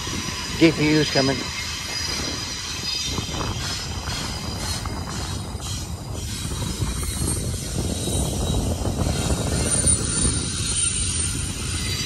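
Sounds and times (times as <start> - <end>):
faint high wheel squeal: 0.0 - 12.0
train wheels rumbling on rail: 0.0 - 12.0.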